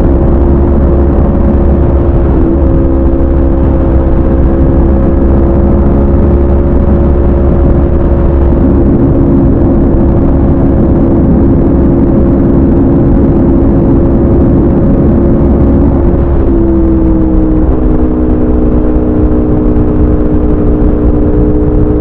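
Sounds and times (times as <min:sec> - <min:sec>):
motorcycle engine cruising loud: 0:00.0 - 0:22.0.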